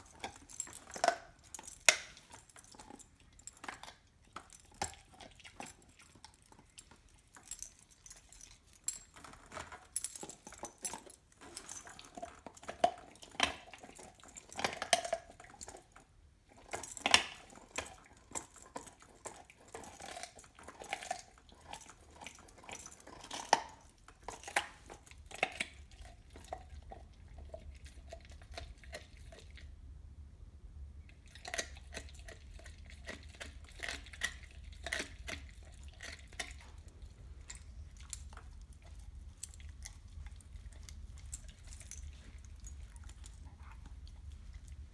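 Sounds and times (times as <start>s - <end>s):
metal collar tags jingling: 0.0s - 27.0s, 31.6s - 44.9s
dog chewing bone: 0.0s - 29.7s, 31.2s - 44.9s.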